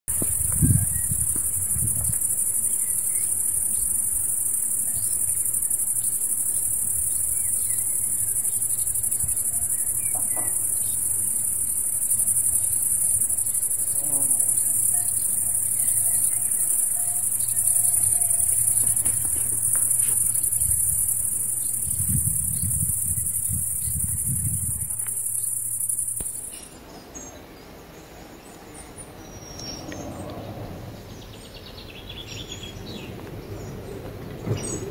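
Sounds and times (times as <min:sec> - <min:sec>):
crickets chirring: 0:00.1 - 0:34.9.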